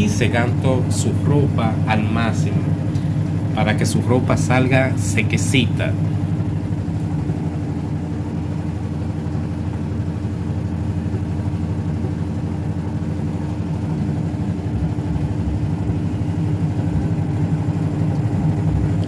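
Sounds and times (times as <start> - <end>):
washing machine spin cycle: 0.0 - 19.0.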